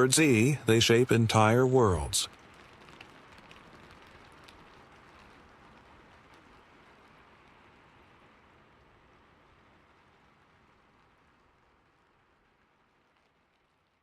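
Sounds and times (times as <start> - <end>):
faint steady rainfall: 0.0 - 14.0.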